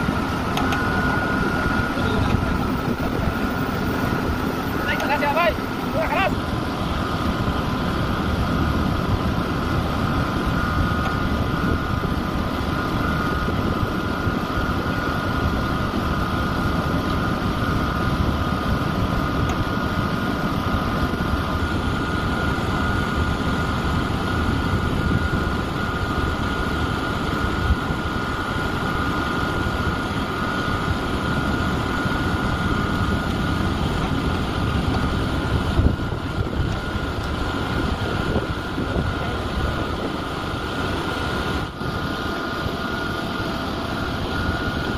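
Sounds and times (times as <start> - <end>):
constant whine: 0.0 - 44.9
diesel engine running: 0.0 - 44.9.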